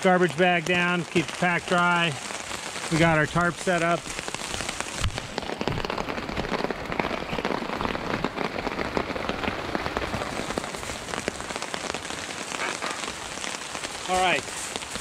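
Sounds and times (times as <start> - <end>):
rain pattering on a tarp: 0.0 - 15.0.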